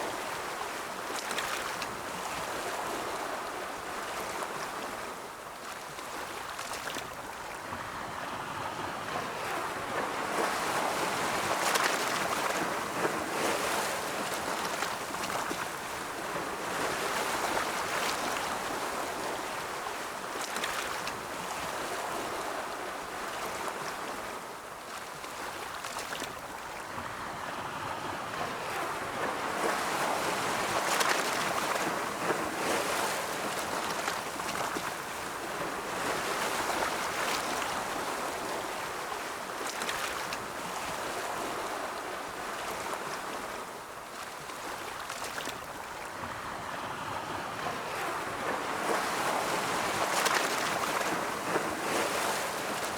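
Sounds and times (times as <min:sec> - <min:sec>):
ocean waves breaking: 0:06.8 - 0:52.9.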